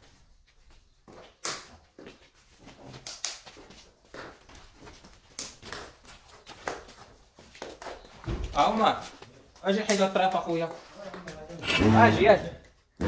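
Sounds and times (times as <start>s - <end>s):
shoes scuffing on concrete: 0.0s - 11.5s.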